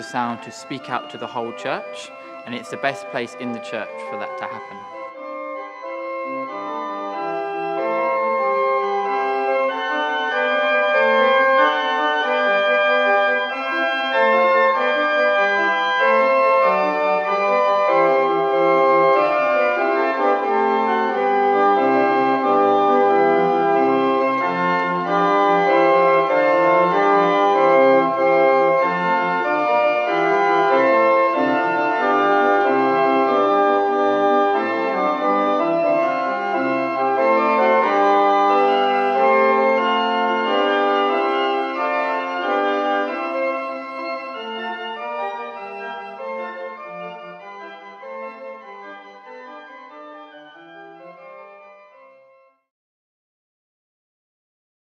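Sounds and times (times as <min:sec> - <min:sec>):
pipe organ chords: 0:00.0 - 0:52.5.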